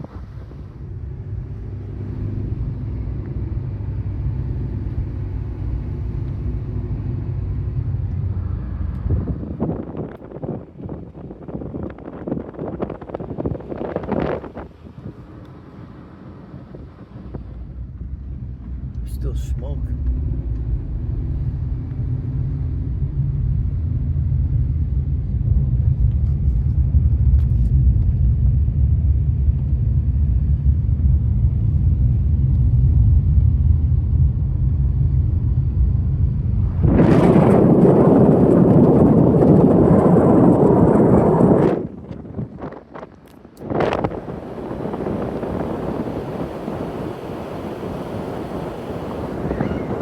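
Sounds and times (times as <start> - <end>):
car driving rumble: 0.0 - 50.0.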